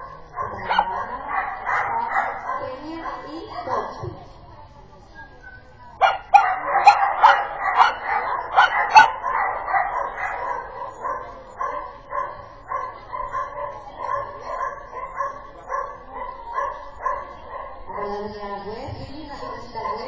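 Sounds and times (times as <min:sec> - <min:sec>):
dog barking: 0:00.0 - 0:04.1, 0:05.4 - 0:18.2, 0:19.4 - 0:20.0.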